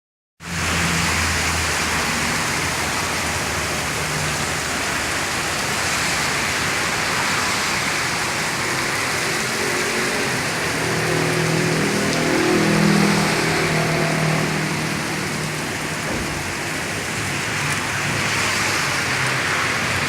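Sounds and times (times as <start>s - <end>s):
heavy rain falling: 0.4s - 20.0s.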